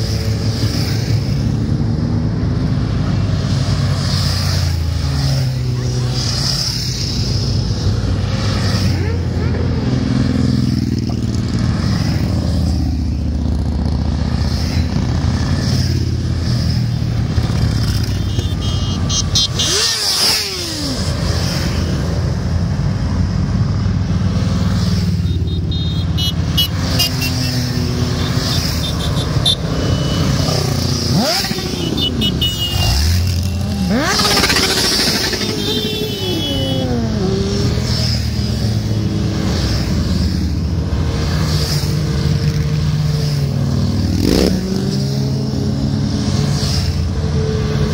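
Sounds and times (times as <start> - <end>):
motorcycles riding past: 0.0 - 47.9.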